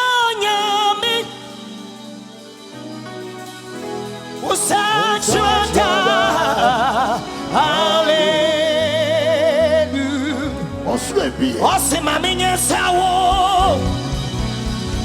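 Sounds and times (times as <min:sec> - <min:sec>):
gospel singing with vibrato: 0:00.0 - 0:15.0
soft instrumental backing: 0:00.0 - 0:15.0.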